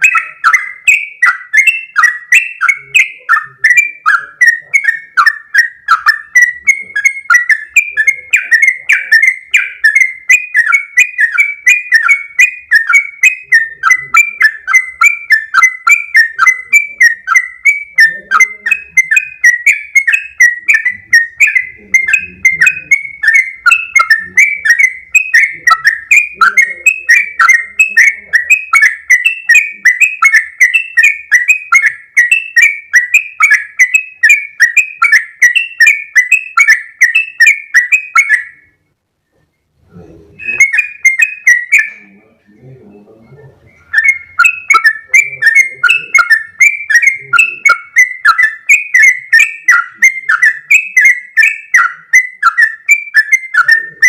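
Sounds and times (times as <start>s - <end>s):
bird singing bubbly chirps: 0.0s - 38.6s, 40.3s - 54.0s.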